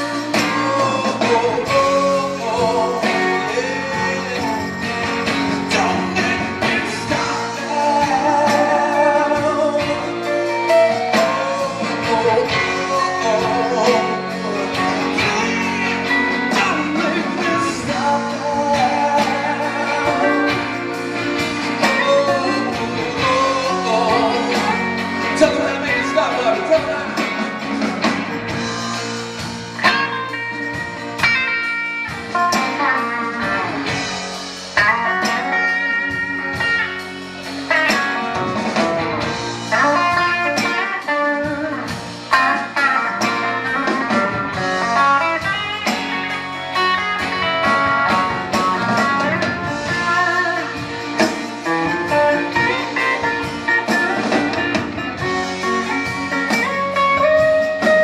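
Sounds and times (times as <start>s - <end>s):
lead guitar melody: 0.0s - 58.0s
live band playing slow ballad: 0.0s - 58.0s.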